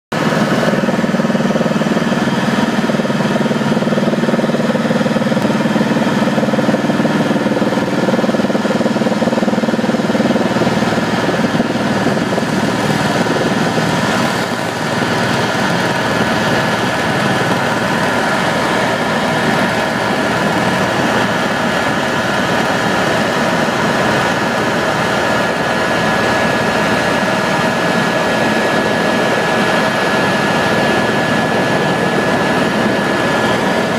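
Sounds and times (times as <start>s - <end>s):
aircraft engines in cabin: 0.1s - 33.9s.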